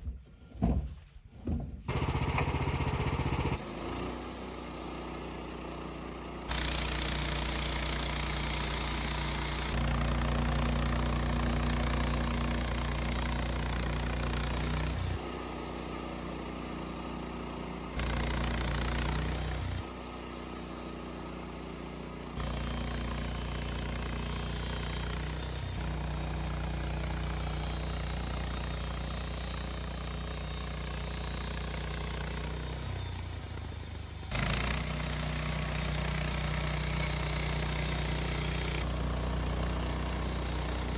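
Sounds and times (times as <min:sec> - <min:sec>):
sawmill engine running with rattle: 0:01.9 - 0:40.9.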